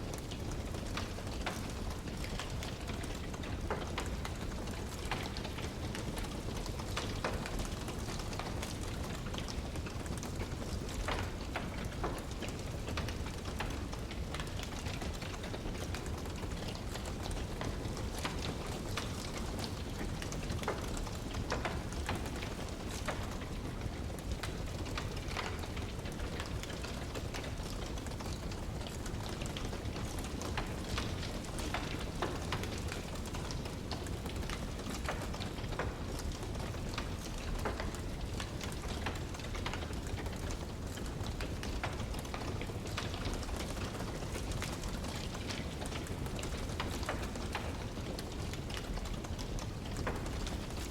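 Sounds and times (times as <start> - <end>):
wood fire crackling: 0.1 - 50.9.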